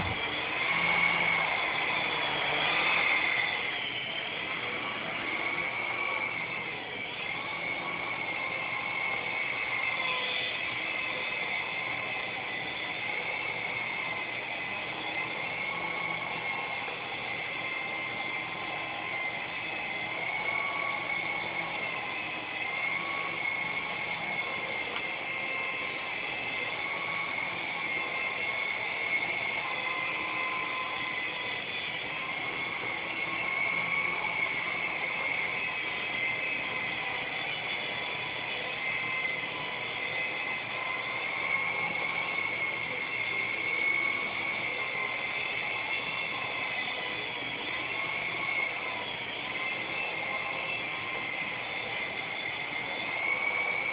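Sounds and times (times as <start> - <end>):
toy helicopter motor whine: 0.0 - 53.9.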